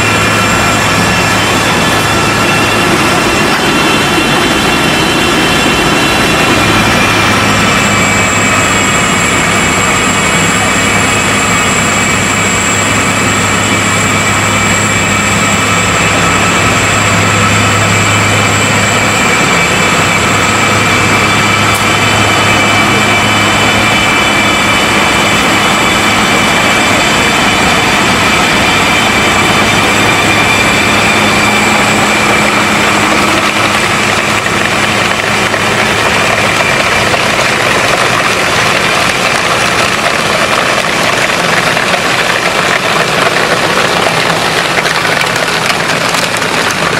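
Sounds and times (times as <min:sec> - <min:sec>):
heavy machine engine droning: 0:00.0 - 0:46.9
high-pitched whine: 0:00.0 - 0:46.9.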